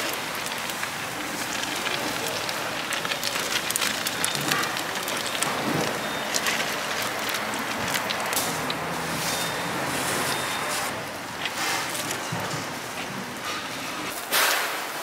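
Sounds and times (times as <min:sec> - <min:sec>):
deep fryer oil sizzling: 0:00.0 - 0:15.0.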